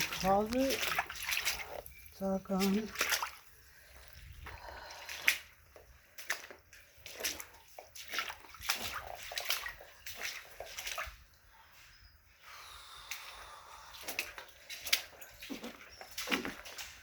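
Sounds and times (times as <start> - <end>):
feet wading through water: 0.0 - 17.0
water sloshing and splashing: 0.0 - 17.0.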